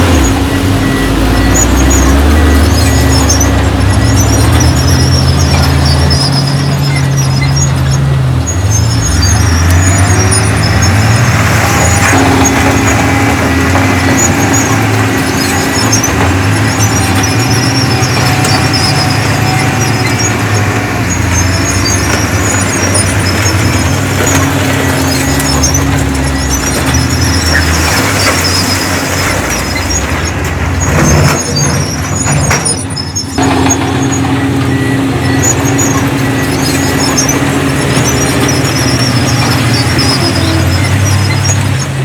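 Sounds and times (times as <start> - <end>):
heavy diesel machinery running: 0.0 - 42.0
steel tracks squealing: 0.0 - 42.0.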